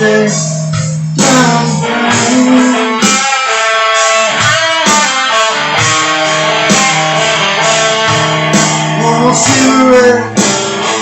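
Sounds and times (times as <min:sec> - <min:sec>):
rock guitar playing chords: 0:00.0 - 0:11.0.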